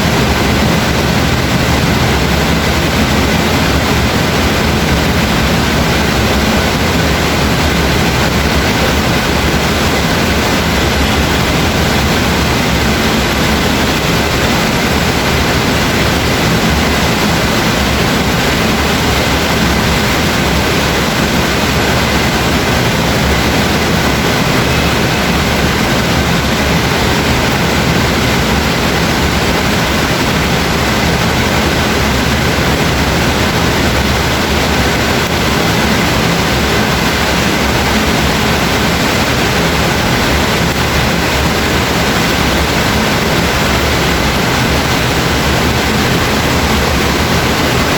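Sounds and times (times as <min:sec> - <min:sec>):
loud rainfall: 0:00.0 - 0:47.9.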